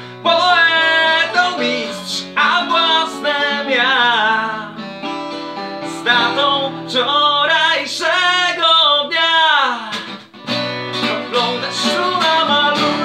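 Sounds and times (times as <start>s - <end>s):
man singing: 0.0s - 4.8s, 5.8s - 10.2s, 11.0s - 13.0s
acoustic guitars strumming: 0.0s - 13.0s.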